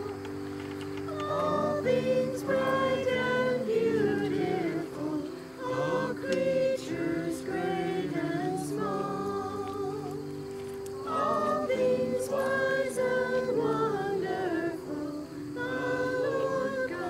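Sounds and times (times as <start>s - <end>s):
congregation singing a hymn: 0.0s - 17.0s
woman singing lead: 1.1s - 10.4s, 11.0s - 17.0s.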